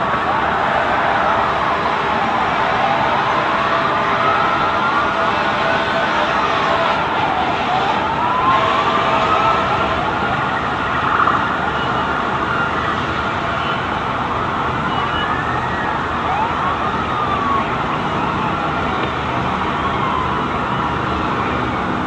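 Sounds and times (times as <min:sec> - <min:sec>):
emergency sirens wailing: 0:00.0 - 0:22.0
steady background noise: 0:00.0 - 0:22.0.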